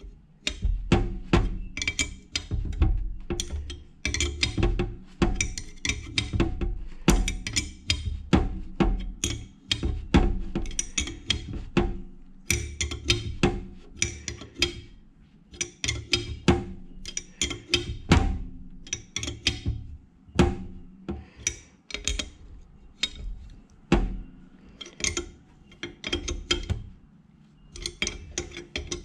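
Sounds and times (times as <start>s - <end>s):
ring spanner ratchet clicking: 0.0s - 11.7s, 12.3s - 18.1s, 18.7s - 20.0s, 21.1s - 27.0s, 27.7s - 29.0s
metal knocks: 0.0s - 27.1s, 27.7s - 29.0s.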